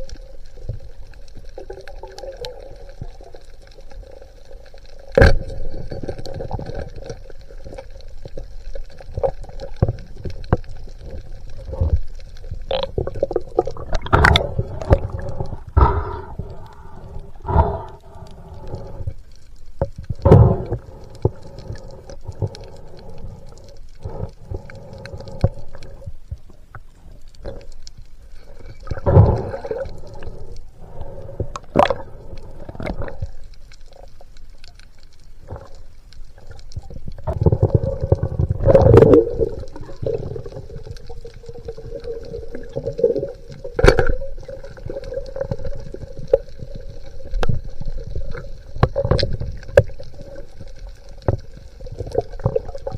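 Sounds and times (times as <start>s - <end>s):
underwater water rumbling: 0.0s - 52.9s.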